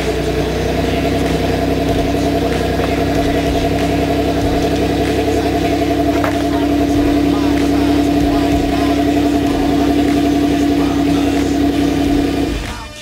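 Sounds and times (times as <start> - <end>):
car engine idling: 0.0 - 12.8.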